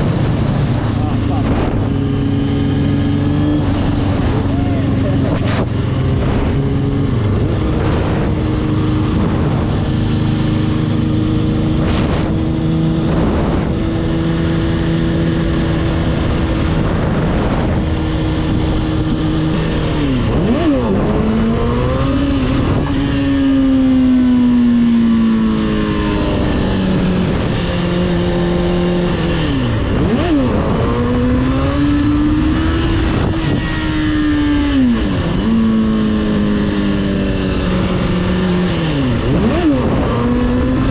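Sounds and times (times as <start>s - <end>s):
motorcycle engine running: 0.0s - 40.9s
road noise: 0.0s - 40.9s
wind: 0.0s - 40.9s.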